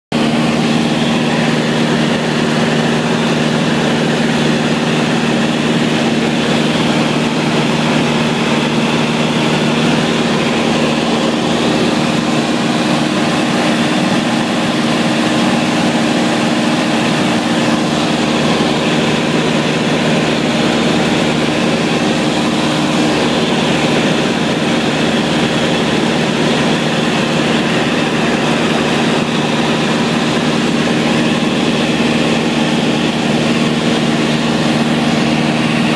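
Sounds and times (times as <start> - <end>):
light aircraft engine droning: 0.1 - 35.9.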